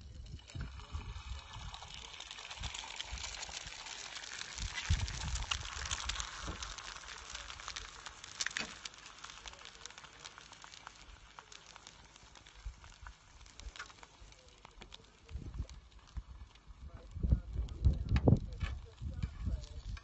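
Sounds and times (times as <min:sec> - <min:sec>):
egg sizzling in frying pan: 0:00.2 - 0:17.3.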